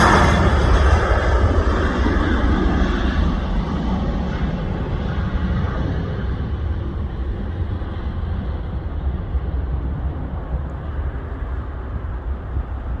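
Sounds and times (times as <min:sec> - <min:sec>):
jet engines on takeoff: 0:00.0 - 0:13.0.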